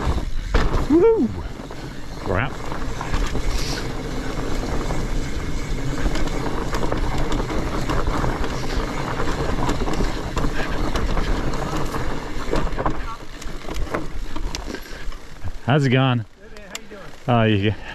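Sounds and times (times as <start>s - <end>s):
bike clattering over roots: 0.0s - 17.9s
bike tyres rumbling on dirt: 0.0s - 17.9s.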